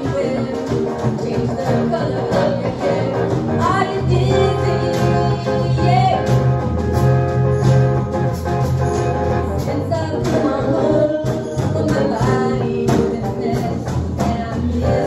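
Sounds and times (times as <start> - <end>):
drums: 0.0 - 15.0
electric guitar: 0.0 - 15.0.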